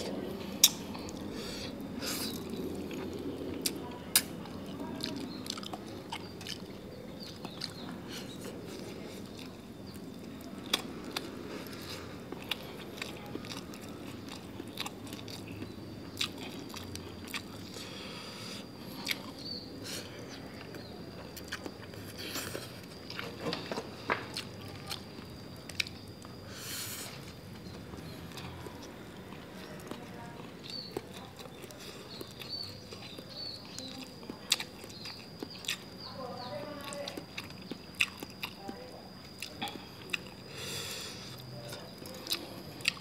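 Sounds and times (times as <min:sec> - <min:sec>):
chewing and crunching food: 0:00.0 - 0:43.0
eating clicks and smacks: 0:00.5 - 0:01.3, 0:02.2 - 0:17.8, 0:20.6 - 0:26.4, 0:27.6 - 0:36.1, 0:36.8 - 0:40.5, 0:41.3 - 0:43.0.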